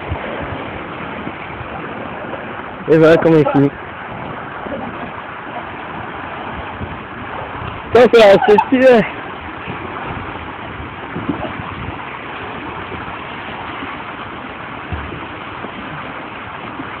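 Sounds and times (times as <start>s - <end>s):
fast-flowing river water: 0.0s - 17.0s
water splashing: 0.0s - 17.0s.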